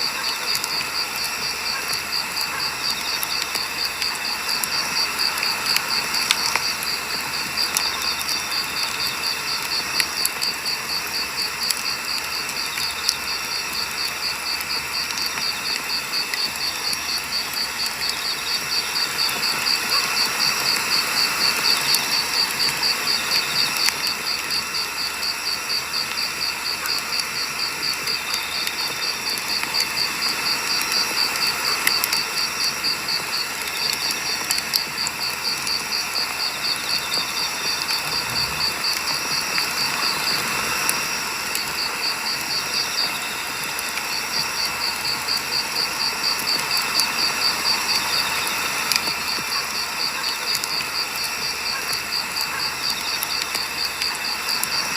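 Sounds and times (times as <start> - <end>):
campfire crackling and popping: 0.0 - 54.9
cricket chirping: 0.0 - 54.9.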